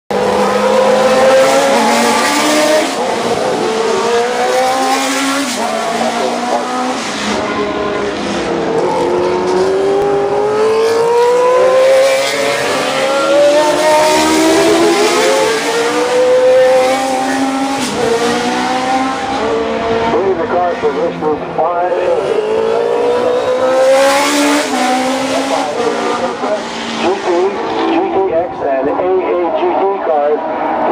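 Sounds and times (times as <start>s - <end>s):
racing car engines accelerating: 0.1s - 30.9s.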